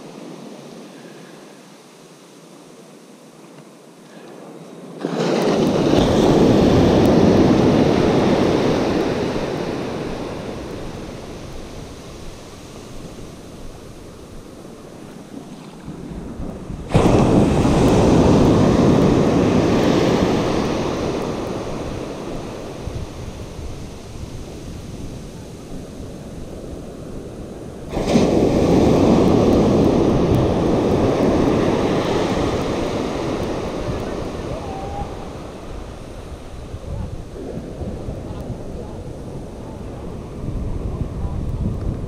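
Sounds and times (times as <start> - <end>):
surf washing up a beach: 0.0 - 42.0.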